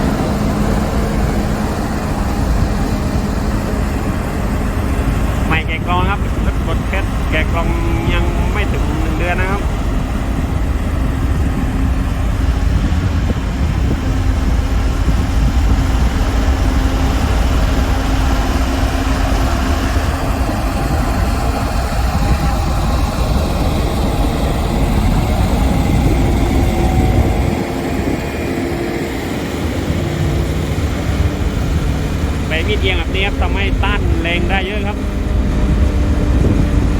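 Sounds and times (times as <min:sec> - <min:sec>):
bulldozer diesel engine running: 0:00.0 - 0:36.9.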